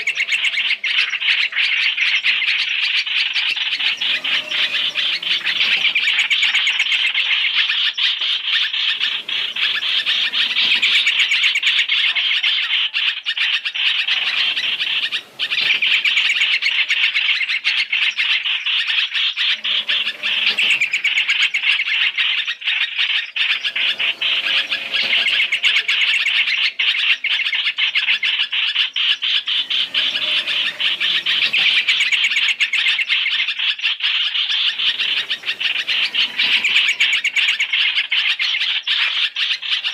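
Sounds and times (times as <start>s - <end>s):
birds chattering and chirping: 0.0s - 39.9s.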